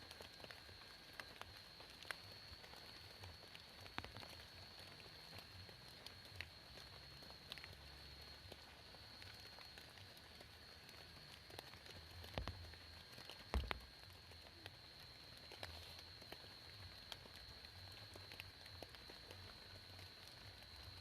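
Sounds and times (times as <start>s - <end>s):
rain dripping: 0.0s - 21.0s.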